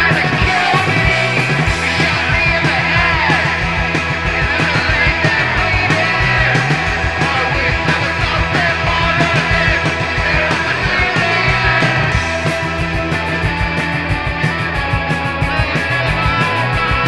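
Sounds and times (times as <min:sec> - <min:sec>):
bass guitar: 0:00.0 - 0:17.0
drums: 0:00.0 - 0:17.0
guitar lines: 0:00.0 - 0:17.0.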